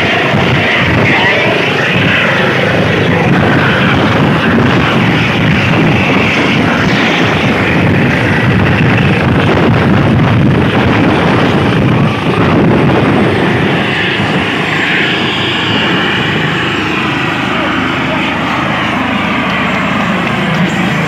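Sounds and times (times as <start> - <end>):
helicopter rotor and turbine noise: 0.0 - 21.0
wind buffeting microphone: 0.0 - 21.0.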